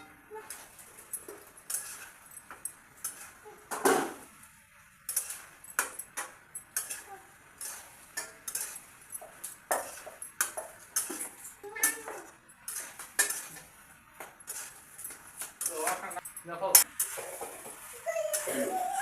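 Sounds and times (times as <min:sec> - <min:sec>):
metal spoon clinking on pan: 0:00.0 - 0:04.3, 0:05.0 - 0:18.6.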